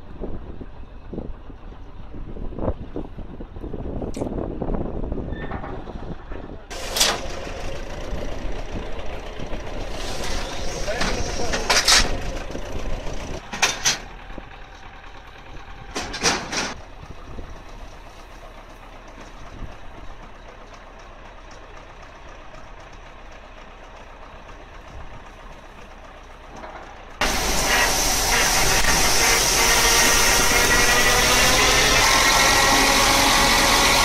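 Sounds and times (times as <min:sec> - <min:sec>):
tractor engine idling: 0:00.0 - 0:05.2, 0:06.0 - 0:34.0.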